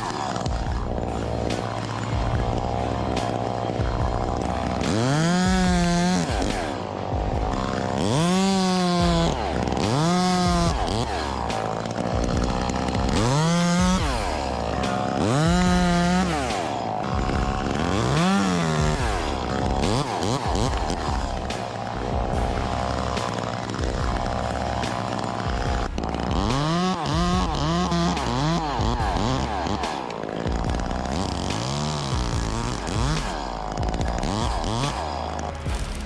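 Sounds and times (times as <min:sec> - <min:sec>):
chainsaw revving: 0:00.0 - 0:36.0.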